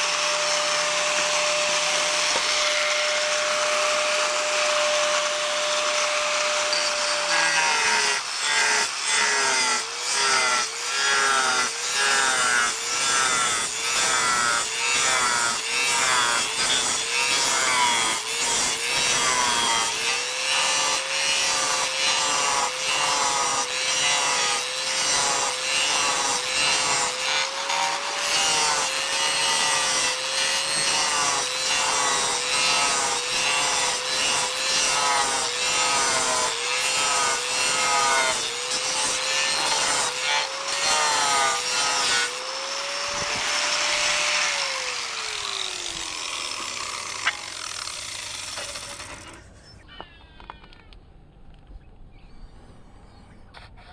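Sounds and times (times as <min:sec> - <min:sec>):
angle grinder cutting tile: 0:00.0 - 0:49.7.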